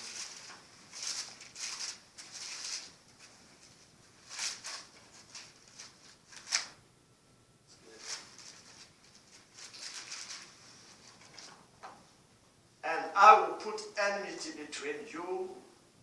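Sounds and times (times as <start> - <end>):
soft hissy rustles: 0.0 - 6.8, 7.7 - 14.8.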